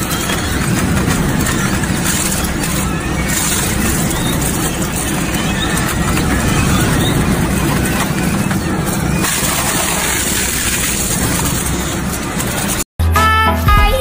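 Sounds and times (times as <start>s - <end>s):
shredder crunching plastic: 0.0s - 12.8s
steady motor hum: 0.0s - 12.8s.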